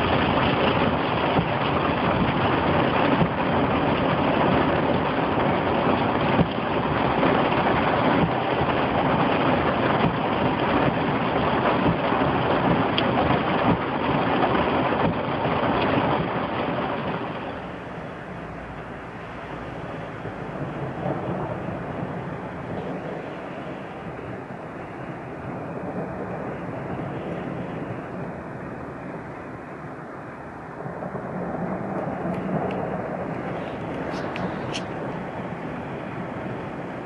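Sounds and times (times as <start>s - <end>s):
ticks of raindrops: 0.0s - 30.0s, 30.6s - 37.0s
heavy rain on a car: 0.0s - 37.0s
tyre and road noise: 0.0s - 37.0s.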